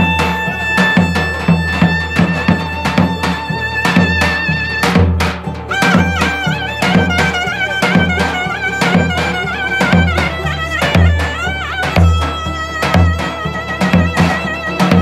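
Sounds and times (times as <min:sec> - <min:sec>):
clarinet melody: 0:00.0 - 0:15.0
heavy drum beat: 0:00.0 - 0:15.0
plucked lute: 0:00.0 - 0:15.0.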